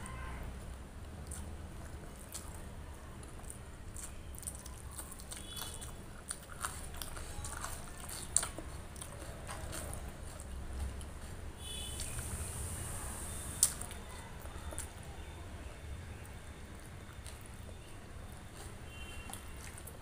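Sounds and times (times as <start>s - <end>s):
person chewing wetly: 0.6s - 15.4s, 16.2s - 20.0s.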